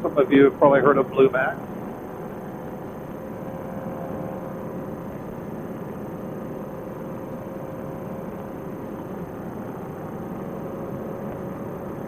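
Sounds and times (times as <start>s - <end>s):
constant steady tone: 0.0s - 12.0s
paramotor engine and propeller drone: 0.0s - 12.0s.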